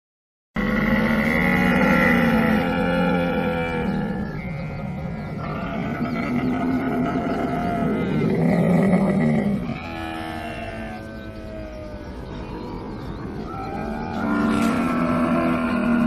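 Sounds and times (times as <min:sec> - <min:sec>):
camel calling: 0:00.6 - 0:12.5, 0:13.3 - 0:16.0.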